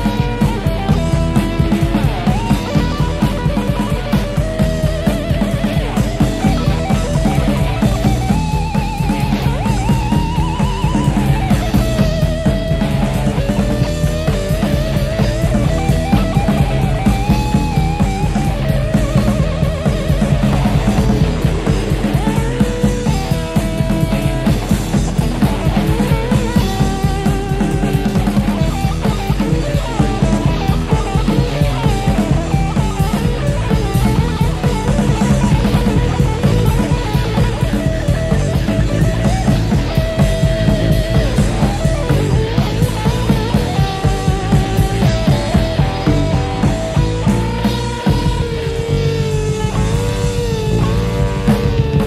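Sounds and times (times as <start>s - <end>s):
bass: 0.0s - 52.0s
drum kit: 0.0s - 52.0s
electric guitar melody: 0.0s - 52.0s.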